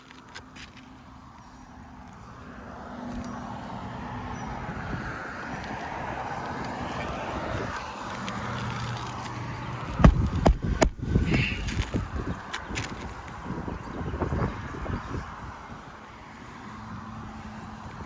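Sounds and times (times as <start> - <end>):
vehicle passing by: 0.2 - 18.0.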